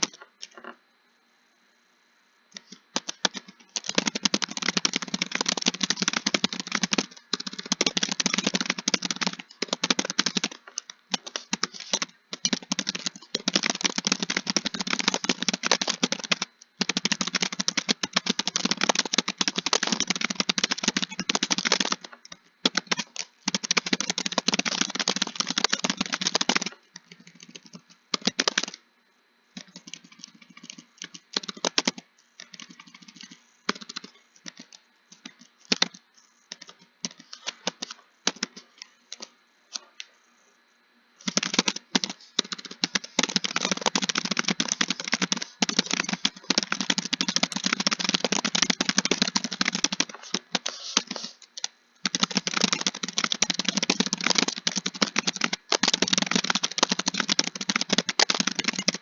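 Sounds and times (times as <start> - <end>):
typing on computer keyboard: 2.6 - 28.8, 29.6 - 39.3, 41.2 - 59.0.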